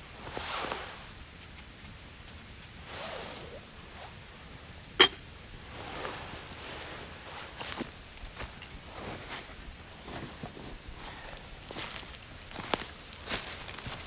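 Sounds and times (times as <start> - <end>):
wood fire burning in stove: 0.0 - 3.0, 5.4 - 14.0.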